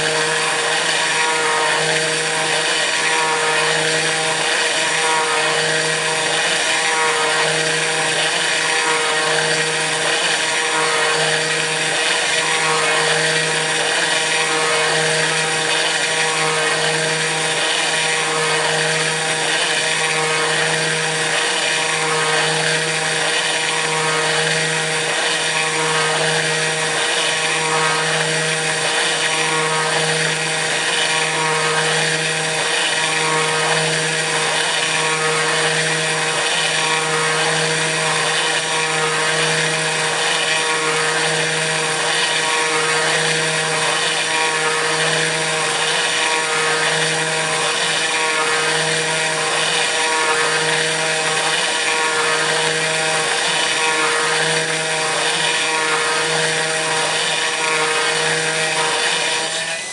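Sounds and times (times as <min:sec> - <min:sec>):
router spindle milling metal: 0:00.0 - 0:59.9.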